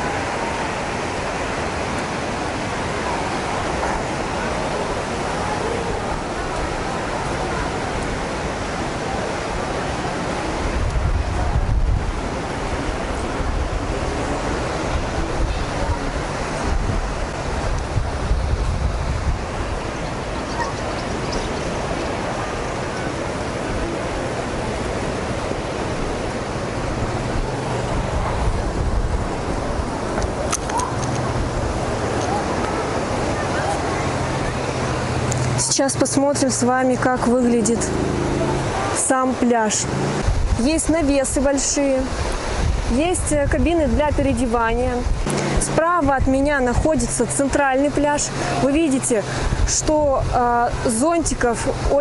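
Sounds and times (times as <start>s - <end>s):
sea surf: 0.0s - 52.0s
wind on microphone: 0.0s - 52.0s.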